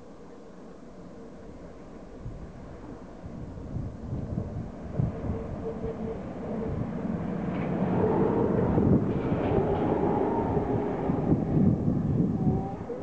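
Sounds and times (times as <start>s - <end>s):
wheels rumbling on rails: 0.9s - 13.0s.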